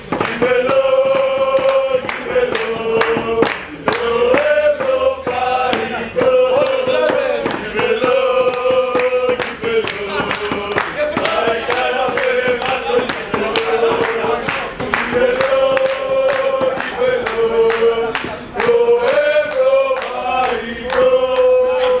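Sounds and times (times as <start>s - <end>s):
men chanting in unison: 0.0s - 22.0s
rhythmic hand clapping: 0.0s - 22.0s.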